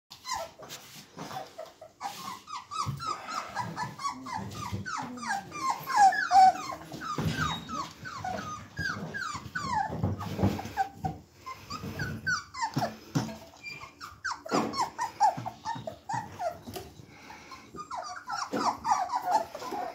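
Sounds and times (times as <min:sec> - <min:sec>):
puppies whining and yipping: 0:00.1 - 0:19.9.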